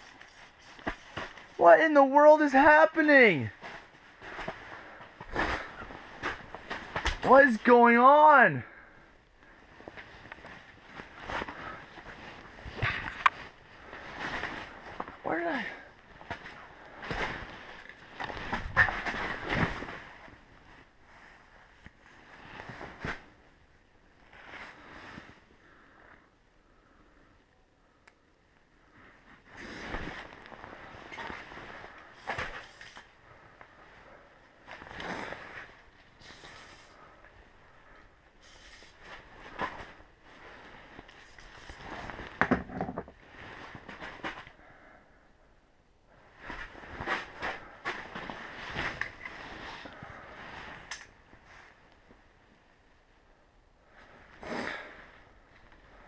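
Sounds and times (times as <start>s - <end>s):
clothing rustling: 0.0s - 7.7s, 9.0s - 26.0s, 28.7s - 44.9s, 46.2s - 53.3s.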